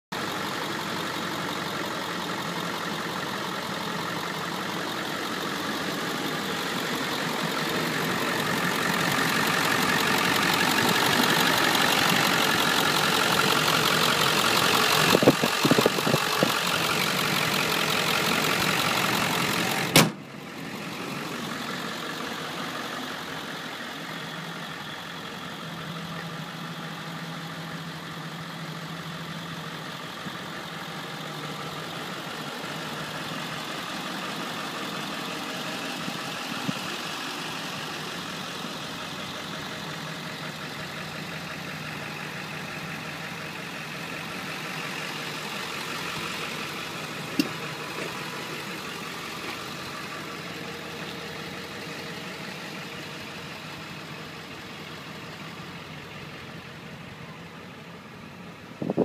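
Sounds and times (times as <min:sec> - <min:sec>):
diesel engine idling: 0:00.1 - 0:59.0.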